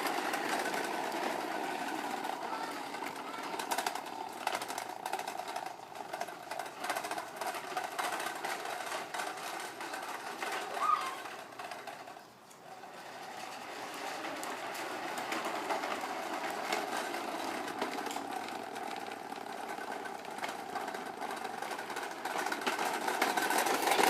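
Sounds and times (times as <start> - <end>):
toy lawn mower whirring and clicking: 0.0 - 24.0.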